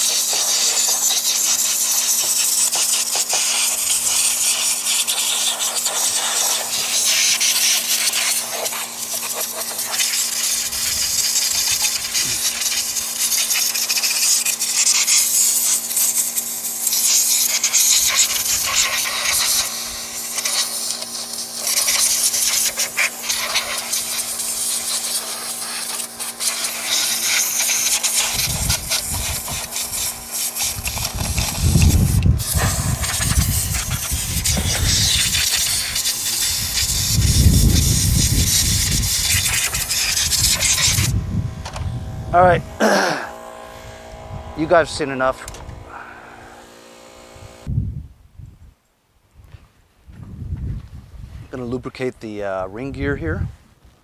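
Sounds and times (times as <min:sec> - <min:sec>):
compressed air hissing: 0:00.0 - 0:47.7.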